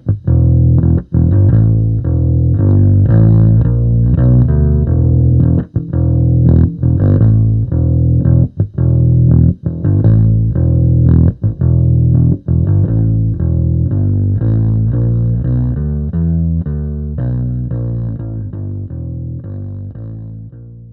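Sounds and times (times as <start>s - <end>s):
electric bass riff: 0.0s - 20.9s.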